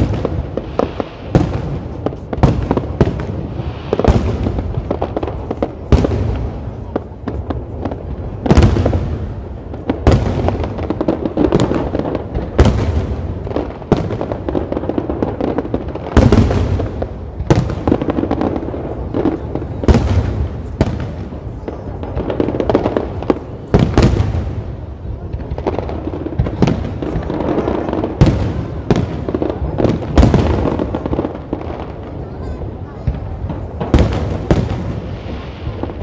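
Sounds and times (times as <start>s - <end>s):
continuous fireworks rumble: 0.0s - 36.0s.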